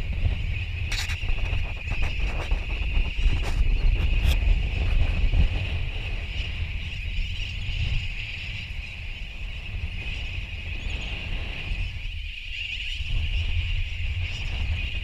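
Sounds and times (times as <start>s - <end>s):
seabird colony calling: 0.0s - 15.0s
wind buffeting microphone: 0.0s - 15.0s.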